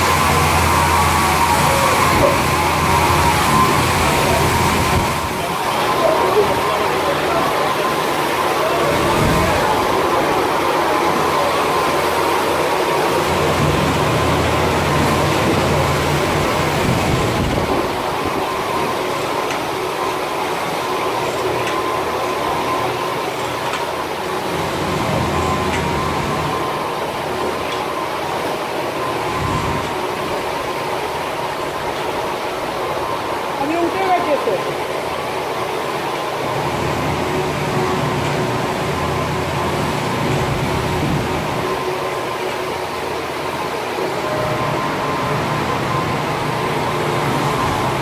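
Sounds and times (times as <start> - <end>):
polishing machine drone and whine: 0.0 - 48.0.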